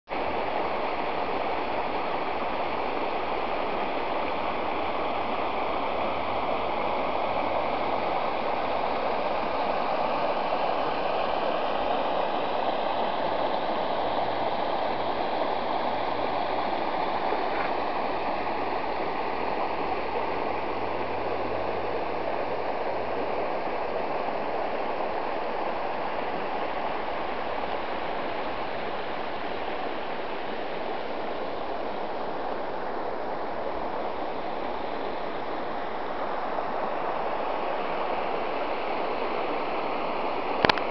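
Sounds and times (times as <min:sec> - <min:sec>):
river rushing over stones: 0:00.1 - 0:40.9.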